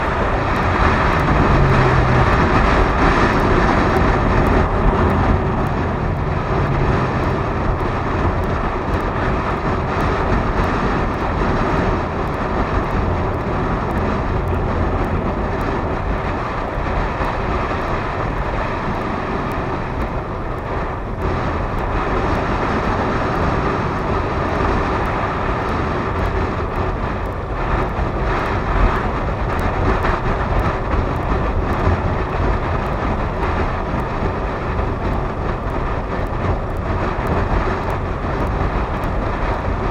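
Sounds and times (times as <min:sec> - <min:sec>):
small motorcycle running: 0:00.0 - 0:39.9
wind rushing over camera: 0:00.0 - 0:39.9.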